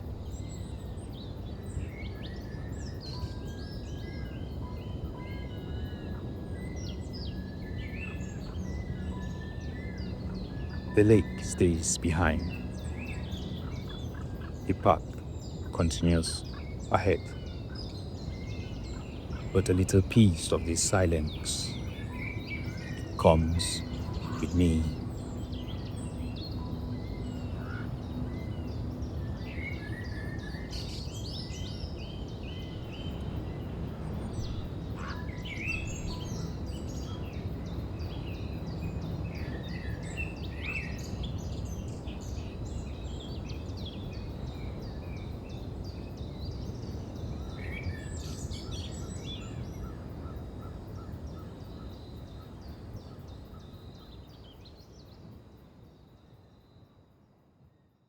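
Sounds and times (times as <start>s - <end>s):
small birds chirping: 0.0s - 50.4s.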